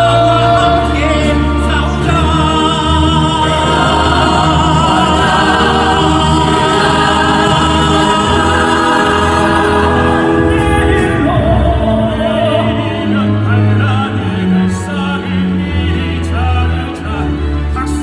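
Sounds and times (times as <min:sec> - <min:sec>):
choir singing sustained notes: 0:00.0 - 0:18.0
loud musical backing: 0:00.0 - 0:18.0.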